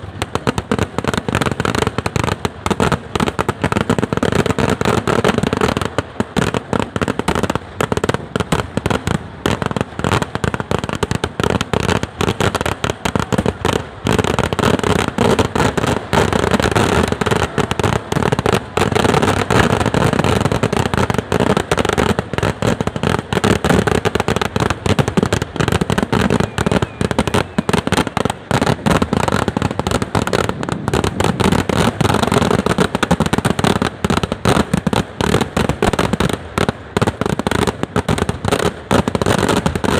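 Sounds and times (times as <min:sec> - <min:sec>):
firecracker barrage: 0:00.0 - 0:39.9.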